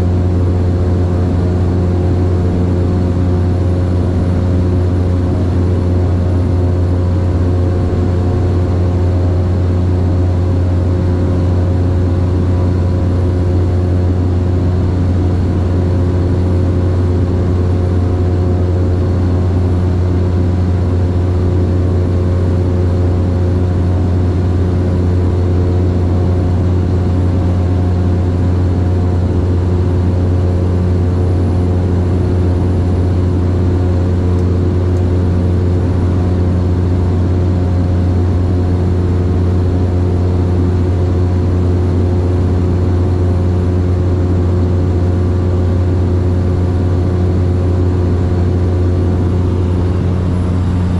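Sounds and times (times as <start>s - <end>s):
propeller plane engine droning: 0.0s - 50.9s.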